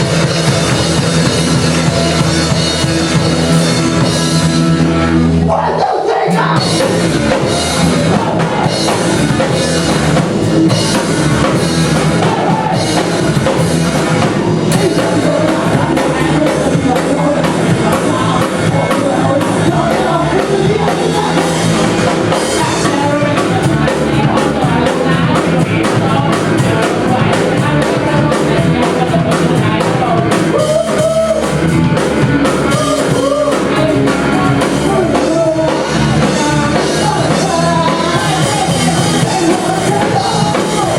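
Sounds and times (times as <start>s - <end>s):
drum kit beat: 0.0s - 5.2s, 6.3s - 40.9s
rock band playing live: 0.0s - 40.9s.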